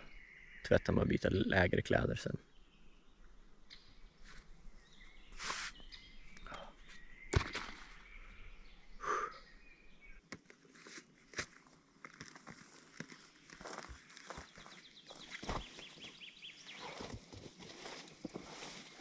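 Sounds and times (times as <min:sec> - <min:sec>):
faint birdsong: 0:00.0 - 0:10.9, 0:12.6 - 0:19.0.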